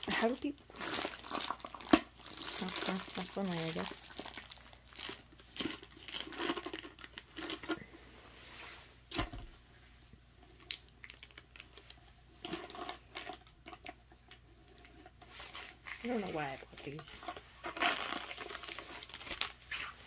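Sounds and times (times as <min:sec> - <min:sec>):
plastic sleeve crinkling: 0:00.0 - 0:07.8, 0:10.4 - 0:20.0.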